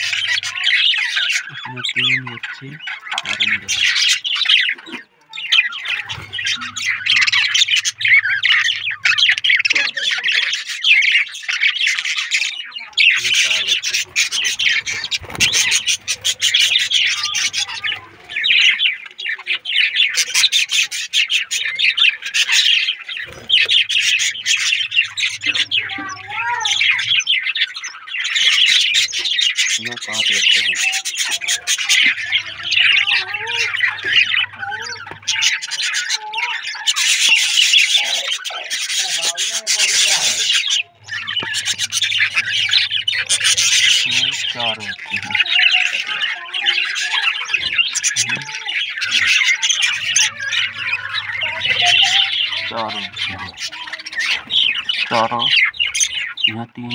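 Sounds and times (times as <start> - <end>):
budgerigar chicks chirping: 0.0 - 56.9.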